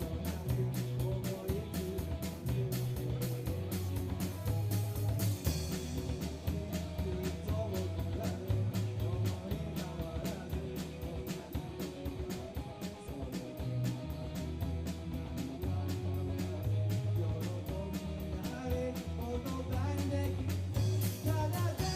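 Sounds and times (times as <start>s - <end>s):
drum beat: 0.0s - 21.9s
guitar: 0.0s - 21.9s
heavy bass: 0.0s - 21.9s
rock band playing live: 0.0s - 21.9s.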